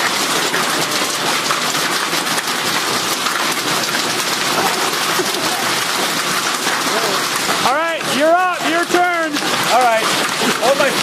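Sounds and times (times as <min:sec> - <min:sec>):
heavy rain and hail: 0:00.0 - 0:11.0.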